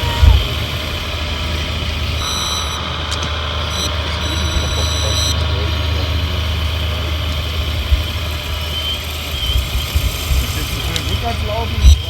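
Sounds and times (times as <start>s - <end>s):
diesel engine idle rumble: 0.0s - 12.0s
high electronic whine: 0.0s - 12.0s.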